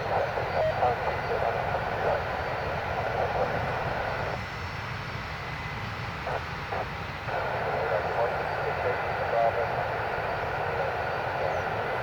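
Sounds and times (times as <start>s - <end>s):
radio hiss: 0.0s - 4.4s, 6.2s - 12.0s
airliner engines rumbling: 0.0s - 12.0s.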